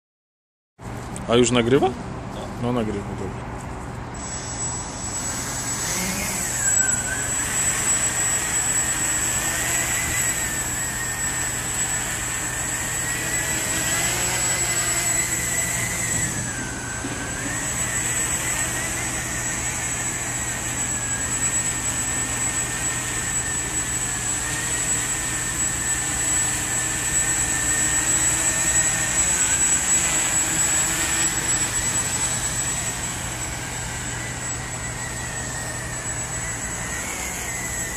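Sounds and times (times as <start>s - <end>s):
steady high whine: 0.8s - 37.9s
drone propellers buzzing: 3.5s - 37.9s.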